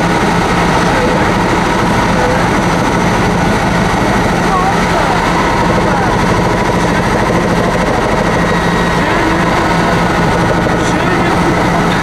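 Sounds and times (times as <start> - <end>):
helicopter rotor and engine drone: 0.0 - 12.0.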